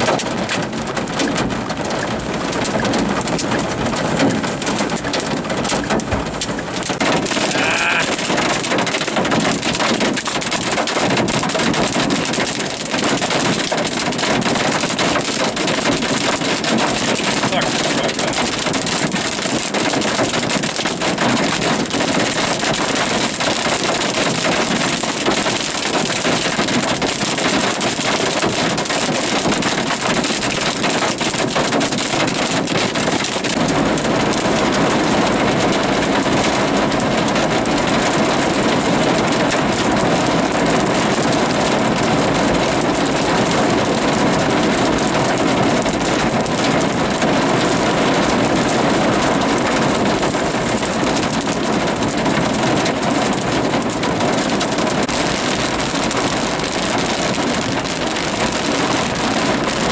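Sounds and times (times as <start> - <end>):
rain and hail on car roof: 0.0 - 59.9.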